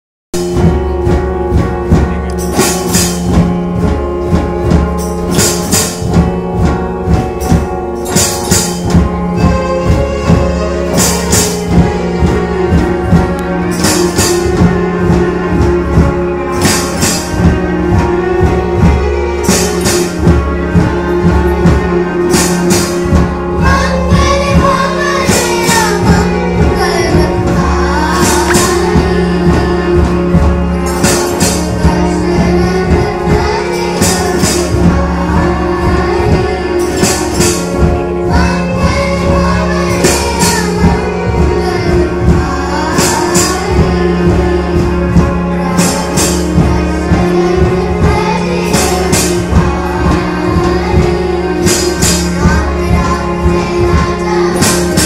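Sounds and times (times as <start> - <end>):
live band music: 0.3 - 55.0
group singing: 9.4 - 55.0.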